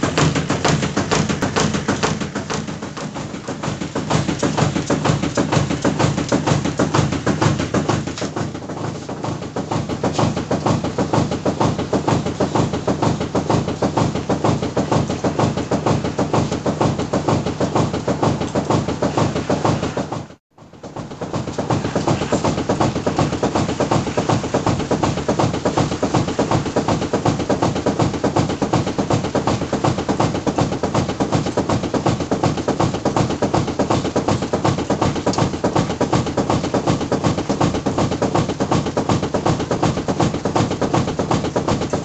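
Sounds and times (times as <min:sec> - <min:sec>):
washing machine knocking rhythmically: 0:00.0 - 0:42.0.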